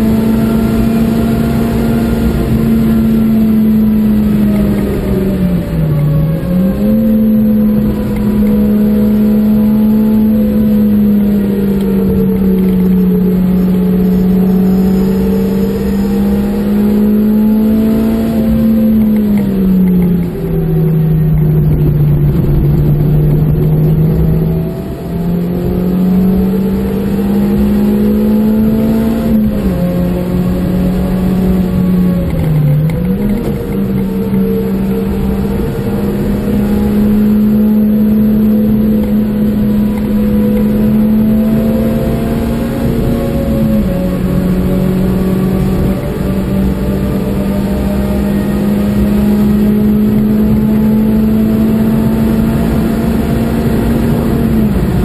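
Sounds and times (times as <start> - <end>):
car engine high-revving drone: 0.0 - 55.0
tyre and road noise: 0.0 - 55.0.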